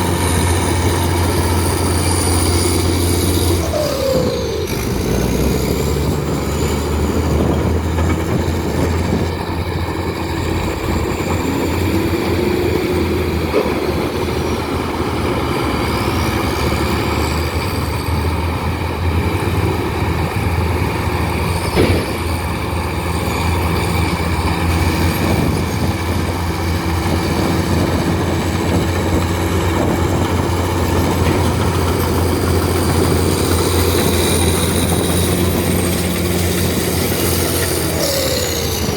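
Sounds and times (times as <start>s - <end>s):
heavy diesel engine working: 0.0s - 38.9s.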